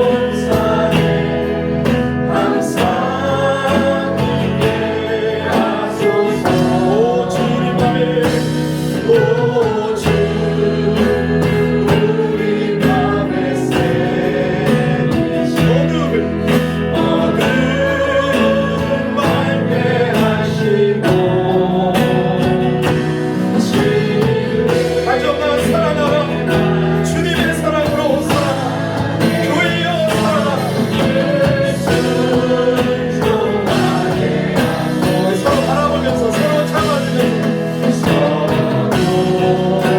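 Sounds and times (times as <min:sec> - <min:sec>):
band accompaniment with beat: 0:00.0 - 0:39.9
choir singing gospel song: 0:00.0 - 0:39.9.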